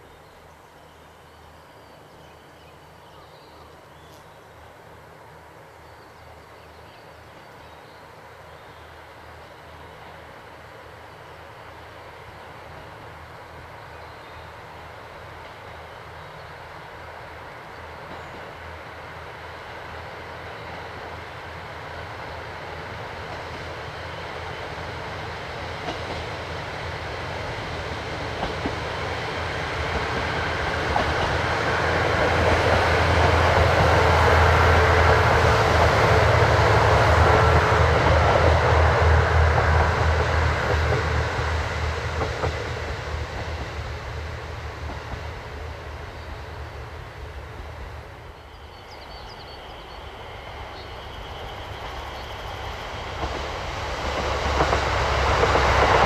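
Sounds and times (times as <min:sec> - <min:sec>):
wheels rumbling on rail: 0:00.0 - 0:56.0
diesel train engine humming: 0:00.7 - 0:56.0.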